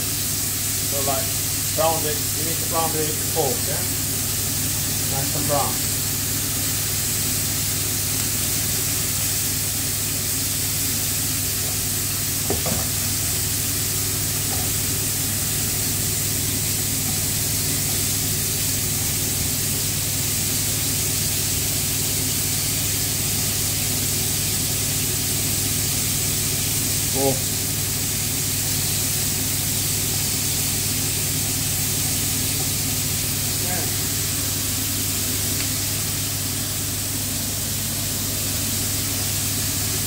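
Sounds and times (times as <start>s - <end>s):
meat sizzling in oil: 0.0s - 40.0s.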